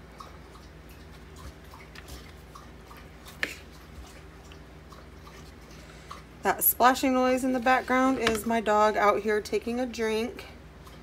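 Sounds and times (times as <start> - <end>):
dog lapping water: 0.0 - 9.0.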